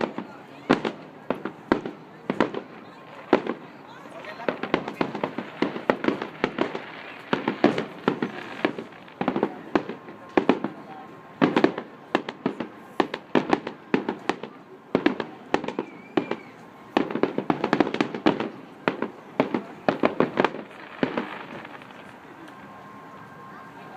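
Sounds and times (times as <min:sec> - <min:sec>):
fireworks bangs and pops: 0:00.0 - 0:22.7.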